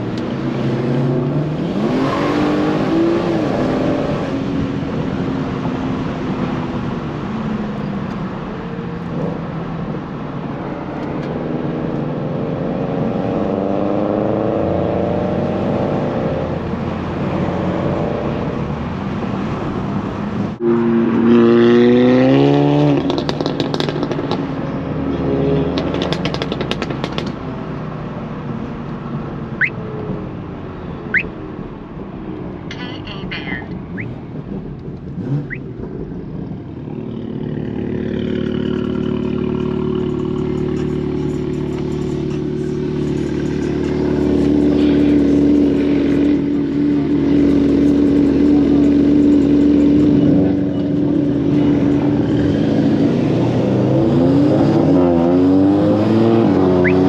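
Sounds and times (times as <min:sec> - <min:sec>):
car engine accelerating: 0:00.0 - 0:31.3, 0:33.7 - 0:57.0.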